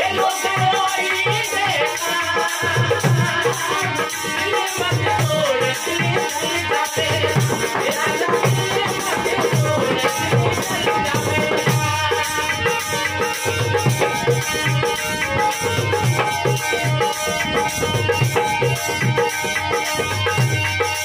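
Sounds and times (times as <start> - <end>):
man singing: 0.0 - 20.4
harmonium chords: 0.0 - 21.0.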